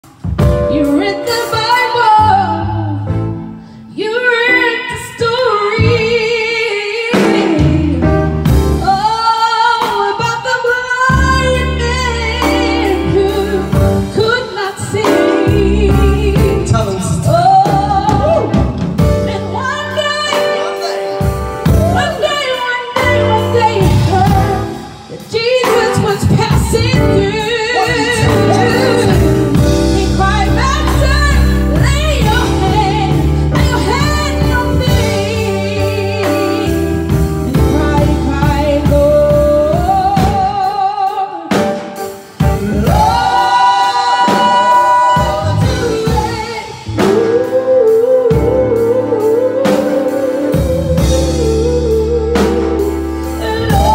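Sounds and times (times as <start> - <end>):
women singing gospel: 3.9 - 8.2, 8.8 - 41.6, 42.5 - 53.9.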